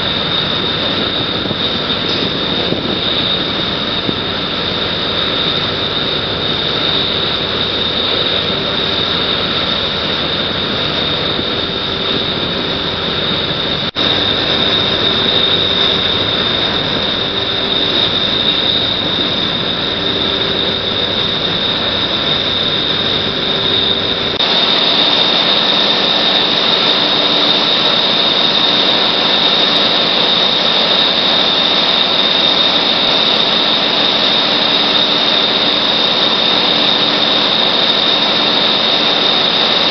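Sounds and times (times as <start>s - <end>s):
heavy machinery running: 0.0s - 39.9s
high steady whine: 0.0s - 39.9s.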